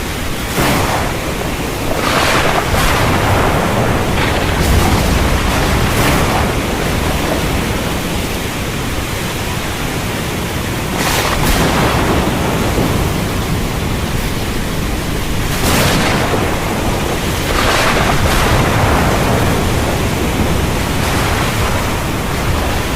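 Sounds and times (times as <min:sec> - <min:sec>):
heavy rain hissing: 0:00.0 - 0:22.9
low thunder rumble: 0:00.0 - 0:22.9.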